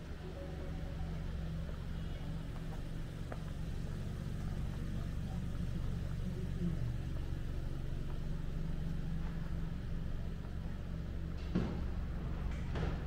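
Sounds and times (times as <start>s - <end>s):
city traffic rumble: 0.0s - 13.0s
vehicle engine running nearby: 0.0s - 13.0s.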